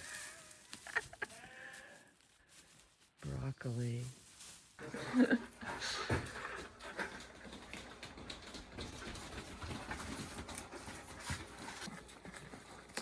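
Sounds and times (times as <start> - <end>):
sheep crunching food: 0.0 - 13.0.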